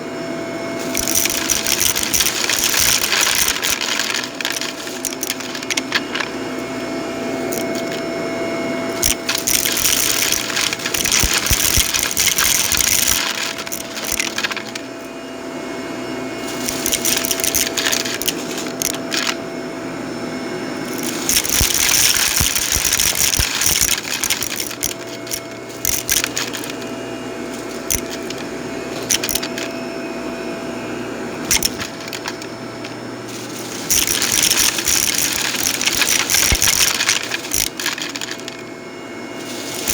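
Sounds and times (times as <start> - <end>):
vacuum cleaner running over carpet: 0.0 - 39.9
debris crackling and clicking: 0.8 - 8.0, 8.9 - 15.1, 16.4 - 19.4, 20.8 - 26.9, 27.5 - 29.8, 31.4 - 38.7, 39.4 - 39.9.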